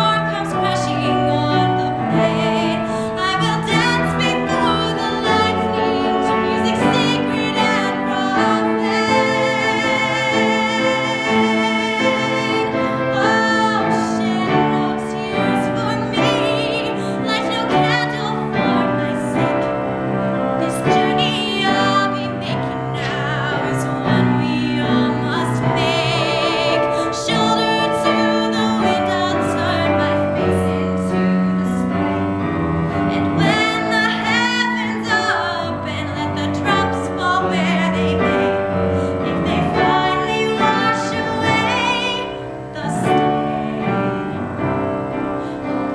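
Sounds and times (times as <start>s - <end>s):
woman singing a ballad: 0.0s - 32.4s, 33.0s - 44.5s
piano accompaniment: 0.0s - 45.9s.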